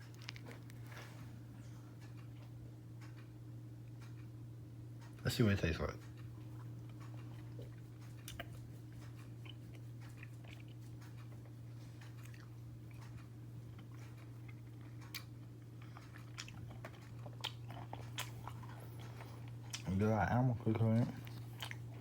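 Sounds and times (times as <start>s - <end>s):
person chewing soft food: 0.0s - 4.4s, 6.0s - 20.0s, 21.0s - 22.0s
steady low hum: 0.0s - 22.0s.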